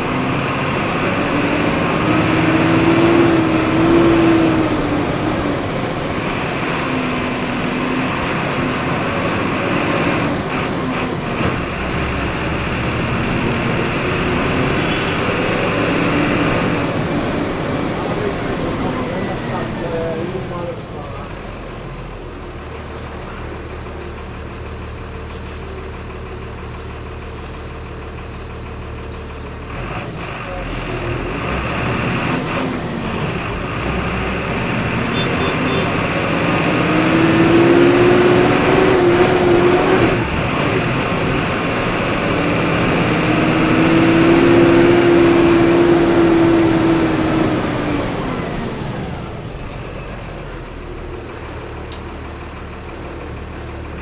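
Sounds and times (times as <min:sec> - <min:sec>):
bus engine idling and accelerating: 0:00.0 - 0:54.0.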